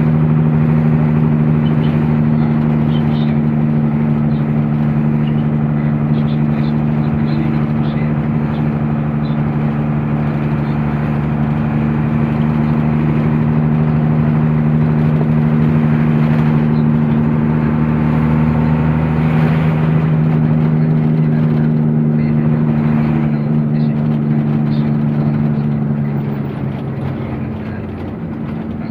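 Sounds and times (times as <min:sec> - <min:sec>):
road noise: 0:00.0 - 0:28.9
truck engine drone: 0:00.0 - 0:28.9.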